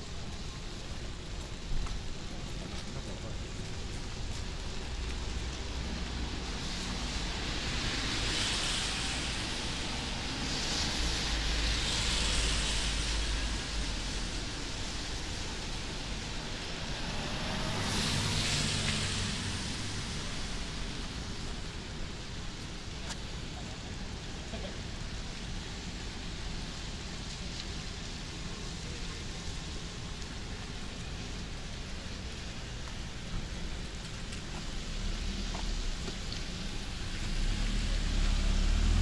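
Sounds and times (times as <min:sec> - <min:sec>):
background hiss: 0:00.0 - 0:39.0
car tyres hissing on wet road: 0:00.0 - 0:39.0
low traffic rumble: 0:00.0 - 0:39.0.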